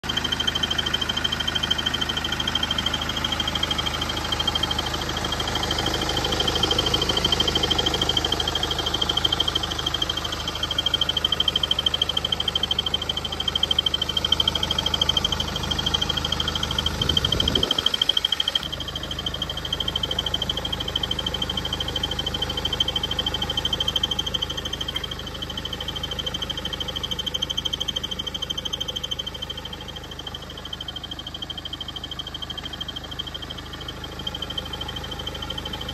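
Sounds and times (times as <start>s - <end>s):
diesel engine idling: 0.0s - 35.9s
high-pitched pulsing belt squeak: 0.1s - 35.9s.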